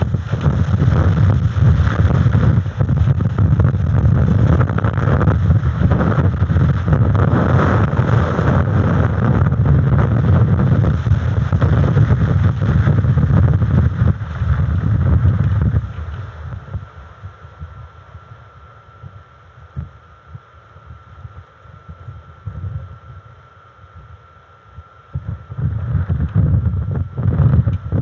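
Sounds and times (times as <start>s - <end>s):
gusty wind on microphone: 0.0s - 28.0s.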